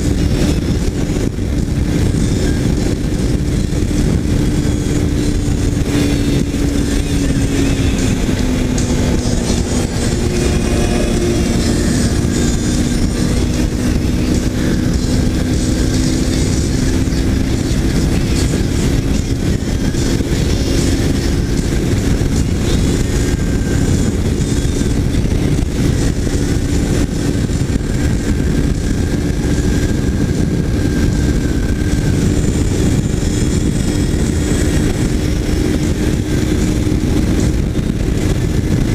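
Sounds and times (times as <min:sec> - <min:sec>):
motorcycle engine cruising: 0:00.0 - 0:38.9
wind rushing: 0:00.0 - 0:38.9.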